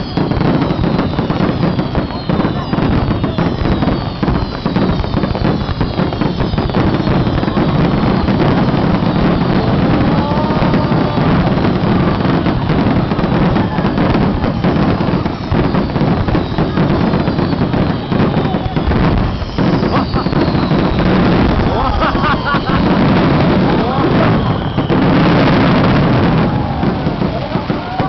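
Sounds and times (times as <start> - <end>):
falling firework whistles: 0.0 - 28.0
fireworks crackling bangs: 0.0 - 28.0.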